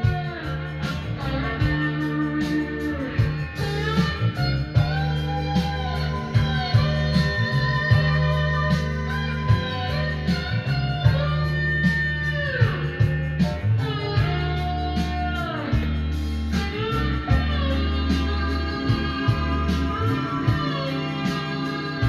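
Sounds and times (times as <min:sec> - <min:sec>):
bass line: 0:00.0 - 0:22.0
electric guitar bending notes: 0:00.0 - 0:22.0.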